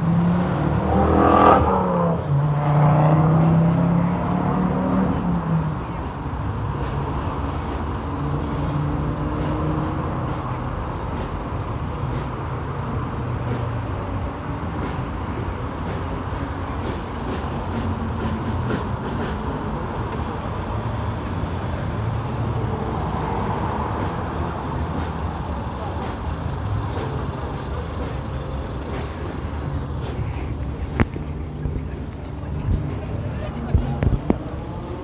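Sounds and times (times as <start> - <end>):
engine rumble: 0.0 - 35.0.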